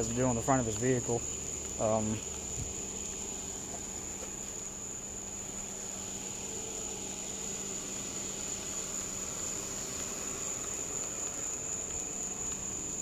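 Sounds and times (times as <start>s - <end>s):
crickets droning: 0.0s - 13.0s
low steady hum: 0.0s - 13.0s.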